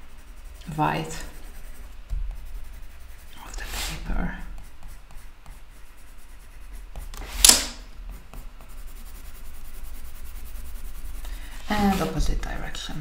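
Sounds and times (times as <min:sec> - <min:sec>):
pencil scratching on paper: 0:00.0 - 0:12.9.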